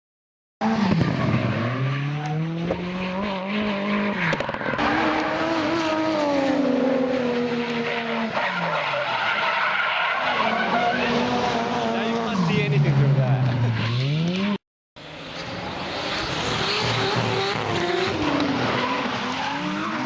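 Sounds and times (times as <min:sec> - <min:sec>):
car engine at high revs: 0:00.6 - 0:20.0.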